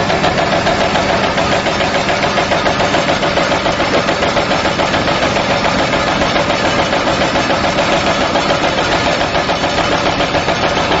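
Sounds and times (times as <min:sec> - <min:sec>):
shredding machine chopping: 0:00.0 - 0:11.0.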